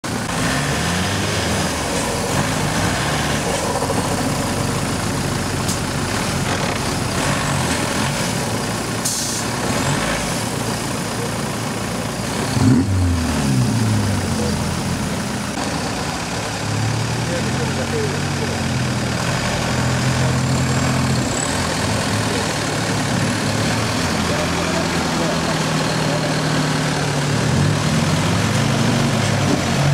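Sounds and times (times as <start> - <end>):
off-road vehicle engine revving: 0.0 - 29.9.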